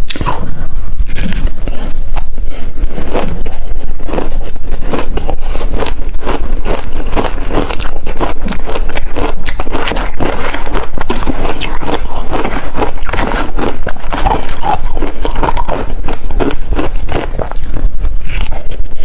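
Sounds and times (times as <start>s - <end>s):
ice being chewed crunching: 1.1s - 19.0s.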